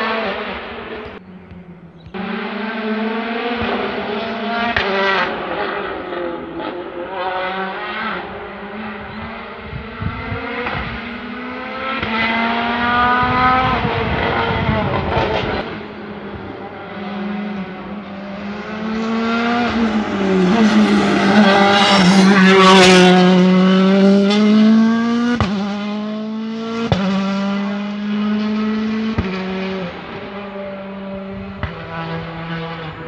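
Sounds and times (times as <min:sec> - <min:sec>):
rally car engine passing: 0:00.0 - 0:33.0.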